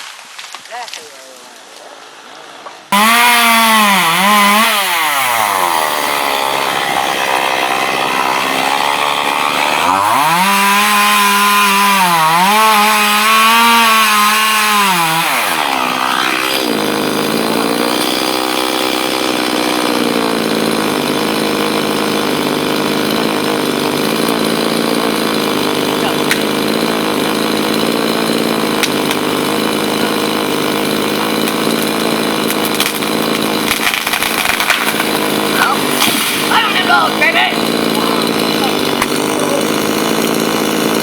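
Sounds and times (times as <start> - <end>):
chainsaw cutting wood: 0.0 - 1.6, 2.6 - 41.0.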